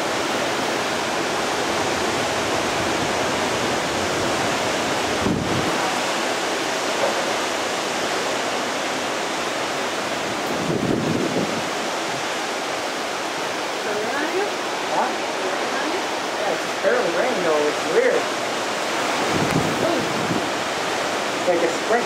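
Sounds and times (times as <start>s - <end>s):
driving rain: 0.0s - 22.0s
strong storm winds: 0.0s - 22.0s.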